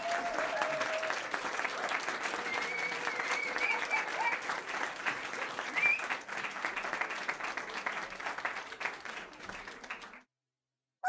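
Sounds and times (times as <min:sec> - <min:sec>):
crowd applause: 0:00.0 - 0:10.3.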